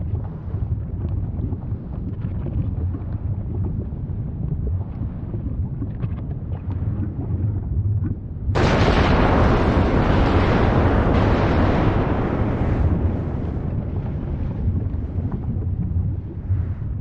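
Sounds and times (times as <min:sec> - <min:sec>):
faint crackles and pops: 0:00.0 - 0:17.0
volcano deep rumble: 0:00.0 - 0:17.0.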